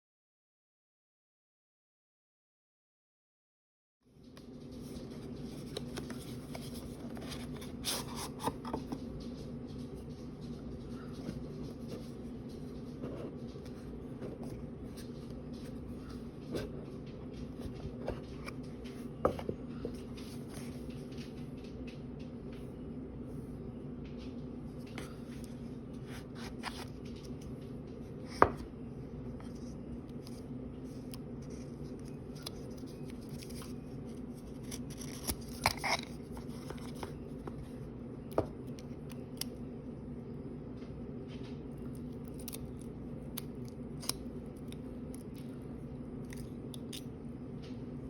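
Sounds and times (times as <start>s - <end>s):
steady low hum: 4.0s - 48.0s.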